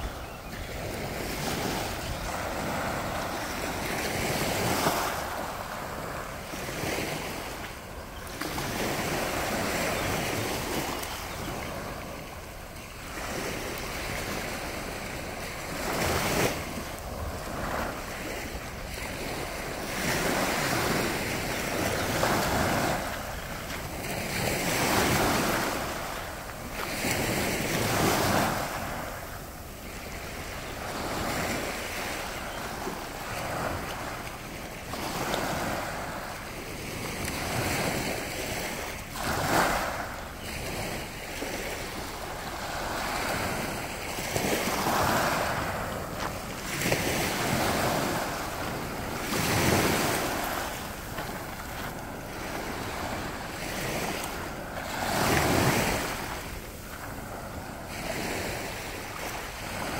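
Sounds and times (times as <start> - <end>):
waves washing onto pebbly shore: 1.0 - 59.9.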